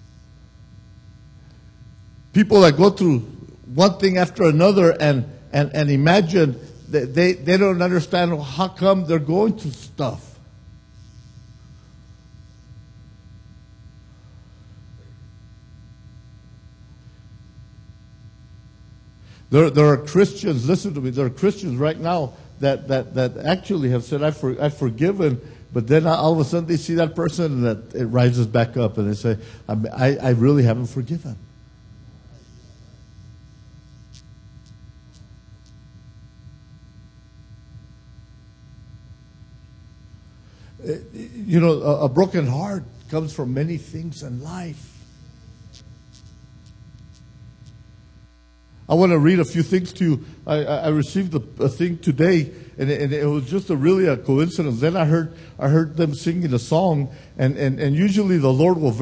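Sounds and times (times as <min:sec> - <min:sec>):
electrical hum and buzz: 0:00.0 - 0:59.0.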